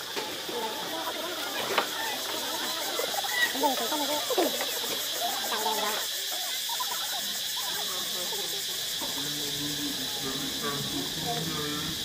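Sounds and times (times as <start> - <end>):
high insect drone: 0.0 - 12.0
short chattering voices: 0.0 - 12.0.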